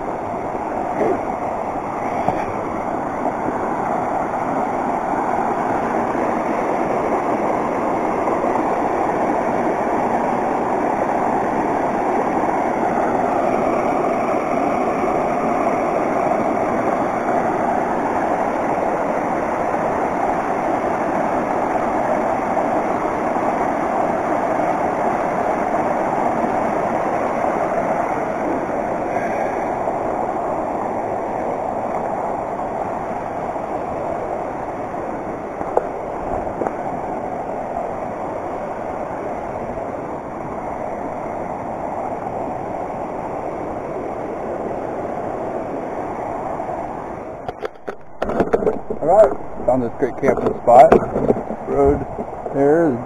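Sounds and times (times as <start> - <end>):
creek water rushing over rocks: 0.0 - 53.0.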